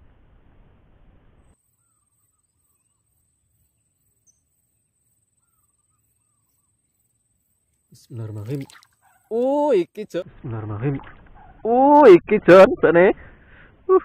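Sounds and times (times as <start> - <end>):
faint distant bird calls: 1.3 - 14.0.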